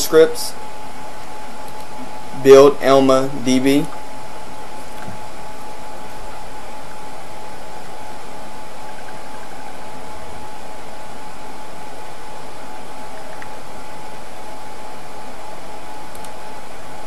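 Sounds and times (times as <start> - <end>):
constant high whine: 0.0 - 17.0
steady hiss: 0.0 - 17.0.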